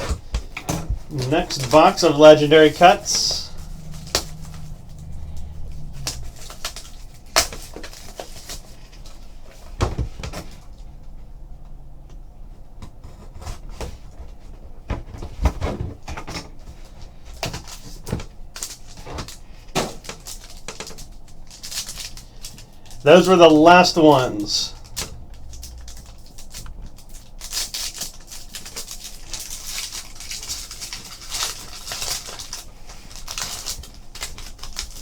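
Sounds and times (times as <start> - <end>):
cardboard and plastic rustling: 0.0 - 10.9, 12.8 - 35.0.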